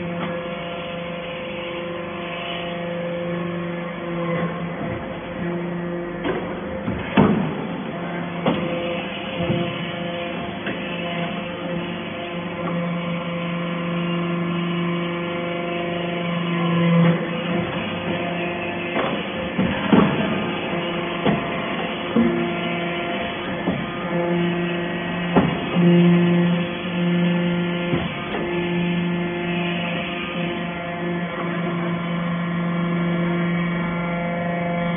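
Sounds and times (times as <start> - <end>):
hydraulic press humming: 0.0 - 34.9.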